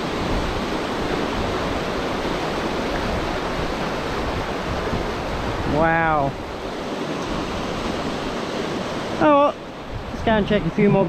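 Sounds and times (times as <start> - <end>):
floodwater rushing through channel: 0.0 - 11.0.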